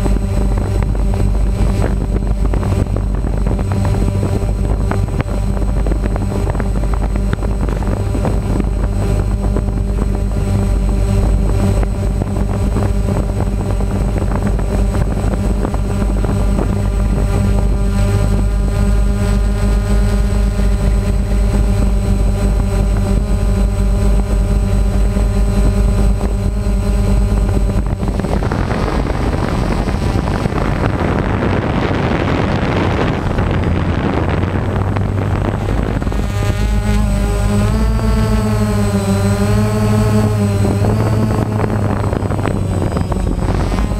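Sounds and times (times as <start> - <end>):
engine running with low pulsing: 0.0 - 43.9.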